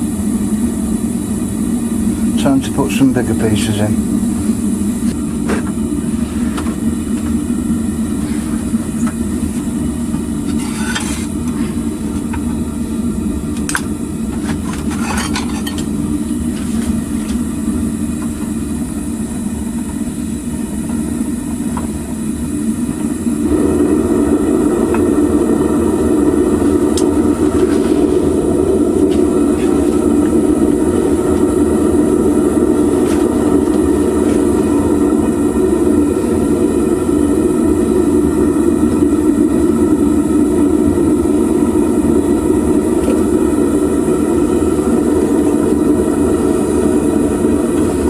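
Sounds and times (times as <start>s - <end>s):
propane burner rushing: 0.0s - 48.0s.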